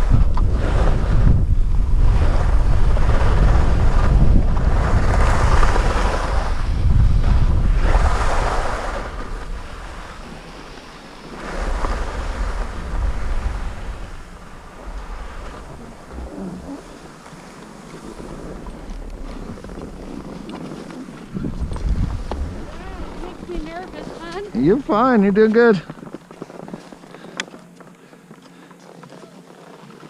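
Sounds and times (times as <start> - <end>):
wind buffeting microphone: 0.0 - 27.3
skis scraping over snow: 0.0 - 30.0.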